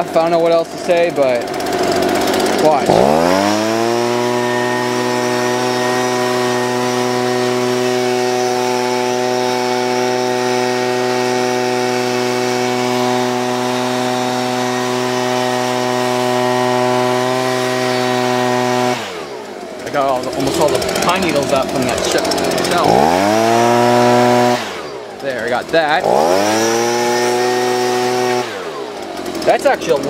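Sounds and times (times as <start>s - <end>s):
leaf blower running: 0.0s - 30.0s.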